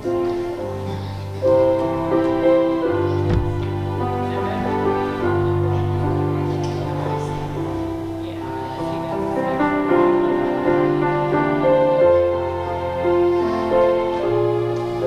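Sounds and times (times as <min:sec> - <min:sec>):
slow church keyboard music: 0:00.0 - 0:15.0.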